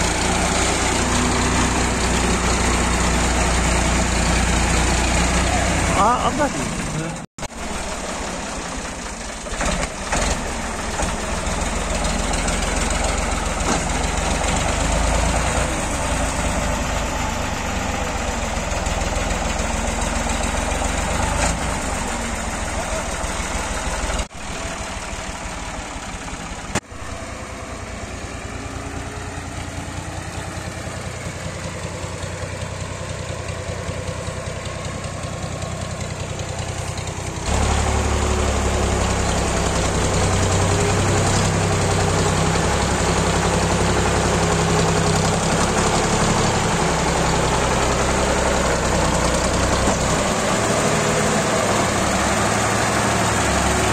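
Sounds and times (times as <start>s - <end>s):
tractor diesel engine idling: 0.0s - 53.9s.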